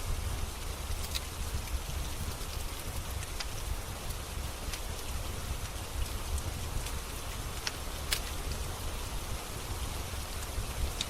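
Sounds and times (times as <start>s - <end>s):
rain hiss: 0.0s - 11.0s
wood fire crackles: 0.0s - 11.0s.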